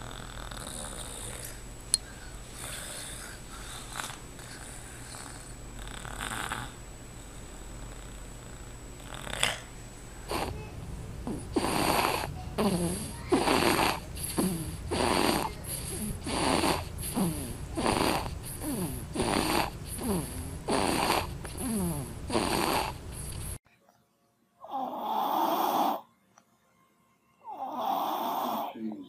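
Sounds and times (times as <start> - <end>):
loud rhythmic snoring: 0.0 - 1.7, 2.5 - 23.6, 24.6 - 26.1, 27.4 - 28.9.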